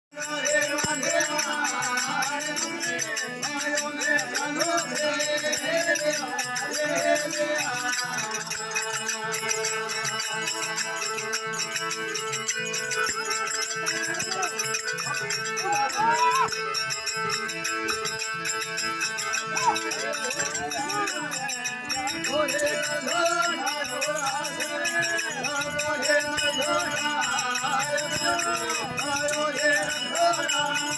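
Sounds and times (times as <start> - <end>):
gliding folk melody: 1.1 - 30.9.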